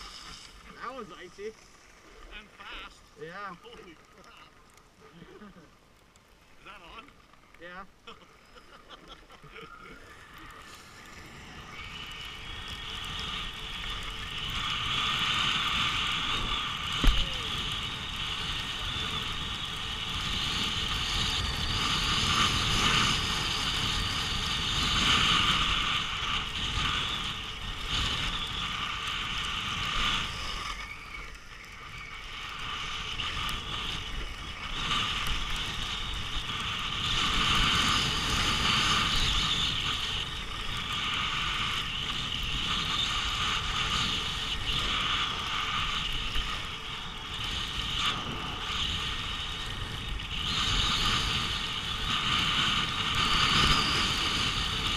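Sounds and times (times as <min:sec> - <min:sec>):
skis scraping over snow: 0:00.0 - 0:05.7, 0:06.4 - 0:54.9
wind on microphone: 0:10.0 - 0:54.9.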